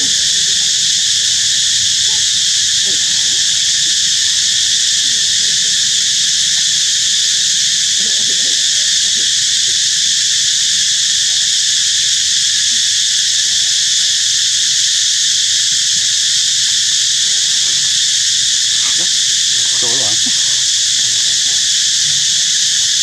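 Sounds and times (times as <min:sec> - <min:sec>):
faint wavering calls: 0:00.0 - 0:23.0
insects droning: 0:00.0 - 0:23.0.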